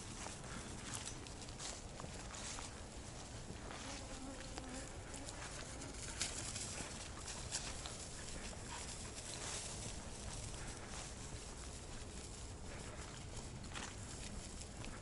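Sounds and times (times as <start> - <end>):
footsteps through grass: 0.0 - 15.0.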